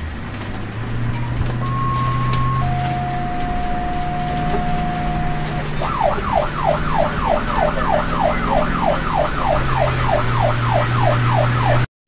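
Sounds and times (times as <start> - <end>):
low vehicle hum: 0.0 - 11.9
ambulance siren yelping: 1.2 - 11.9.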